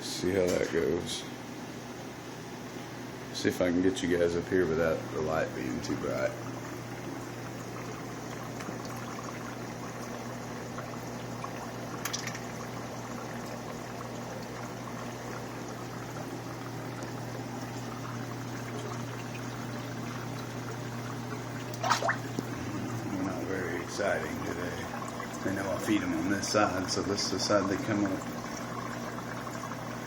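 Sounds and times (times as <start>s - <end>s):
constant low hum: 0.0s - 30.0s
aquarium water running and splashing: 0.2s - 30.0s.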